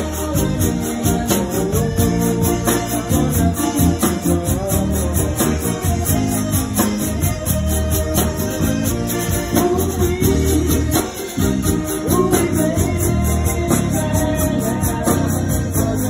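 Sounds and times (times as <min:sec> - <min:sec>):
accordion lead: 0:00.0 - 0:16.0
electric bass: 0:00.0 - 0:16.0
rubboard scraped rhythmically: 0:00.0 - 0:16.0.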